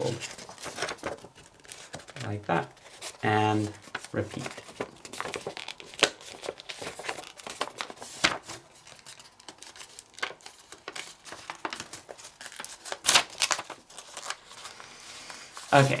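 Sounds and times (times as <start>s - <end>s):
paper crackles: 0.0s - 16.0s
paper crinkling and rustling: 0.0s - 16.0s.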